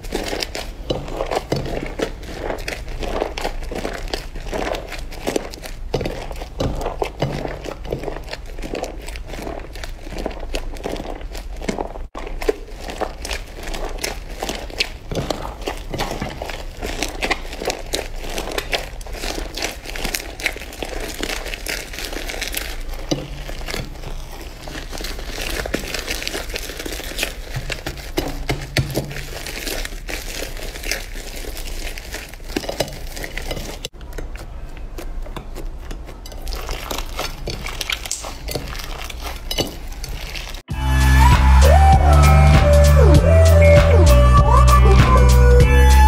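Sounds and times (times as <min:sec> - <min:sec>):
slime squished by hand: 0:00.0 - 0:40.7.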